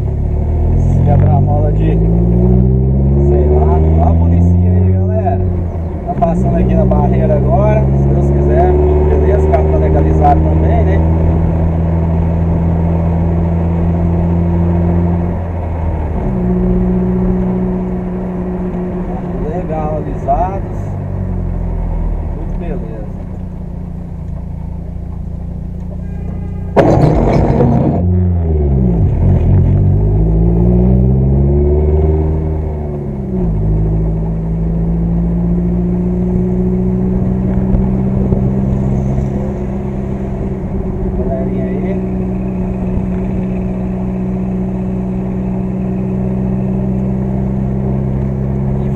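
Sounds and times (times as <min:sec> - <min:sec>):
car engine drone from cabin: 0:00.0 - 0:48.9
road noise: 0:00.0 - 0:48.9.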